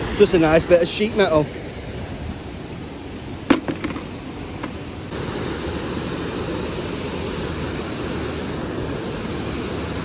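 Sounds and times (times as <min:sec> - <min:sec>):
steady rumbling noise: 0:00.0 - 0:10.0.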